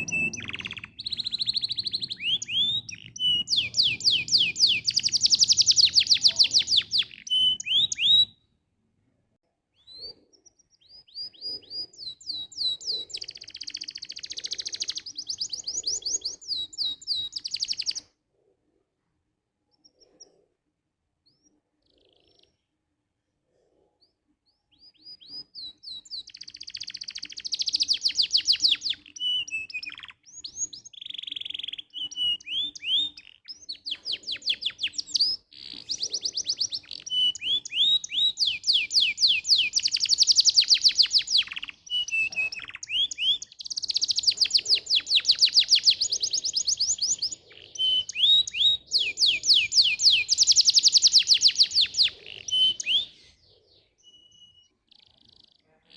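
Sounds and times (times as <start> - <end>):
canary singing trills: 0.0 - 8.5, 9.7 - 18.2, 23.9 - 55.9.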